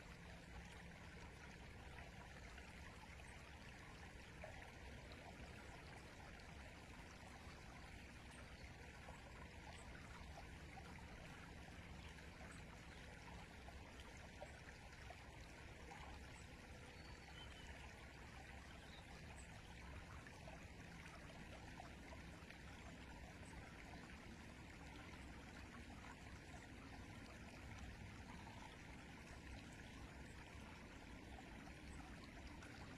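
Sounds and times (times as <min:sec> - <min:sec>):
river water flowing: 0:00.0 - 0:32.9.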